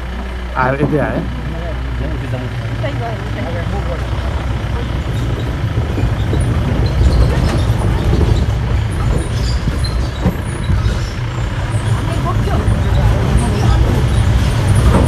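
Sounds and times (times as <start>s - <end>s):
wheels knocking on wooden planks: 0.0s - 1.4s, 2.6s - 15.0s
jeep engine and road rumble: 0.0s - 15.0s
vehicle body rattling: 0.0s - 15.0s.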